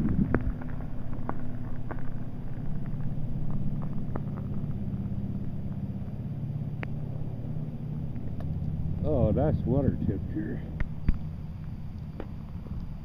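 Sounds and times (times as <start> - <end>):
pulsing motor hum: 0.0 - 13.0.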